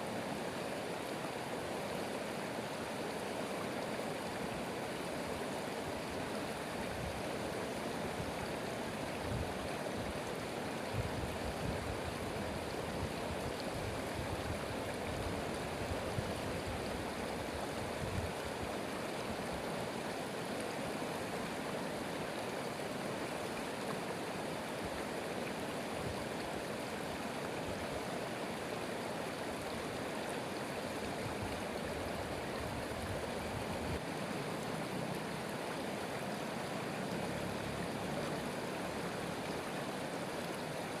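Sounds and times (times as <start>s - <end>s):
stream of running water: 0.0s - 41.0s.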